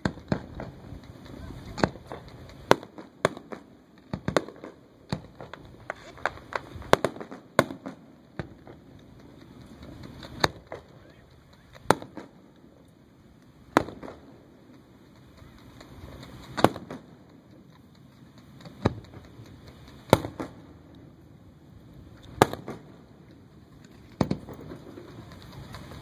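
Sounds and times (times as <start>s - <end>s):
fireworks booming: 0.0s - 26.0s
soft fireworks report: 0.0s - 26.0s.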